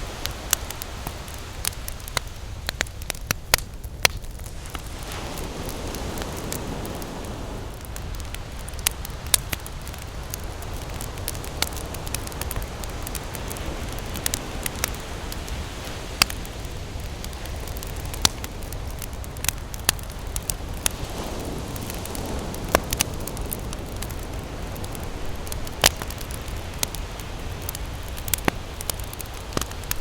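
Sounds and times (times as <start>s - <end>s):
campfire crackling and popping: 0.0s - 30.0s
ocean surf rumbling: 0.0s - 30.0s.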